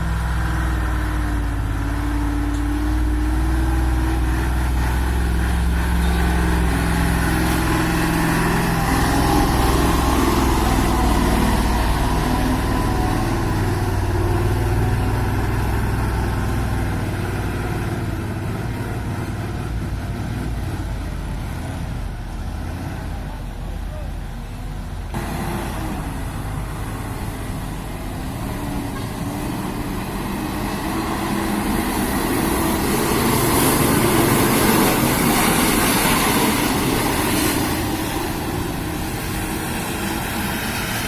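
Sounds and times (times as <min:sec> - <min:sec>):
truck diesel engine running: 0:00.0 - 0:41.0.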